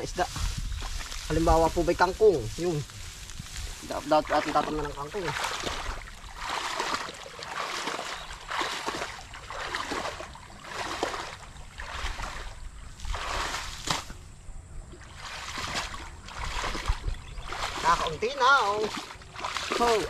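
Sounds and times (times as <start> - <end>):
pond water splashing and sloshing: 0.0 - 20.0.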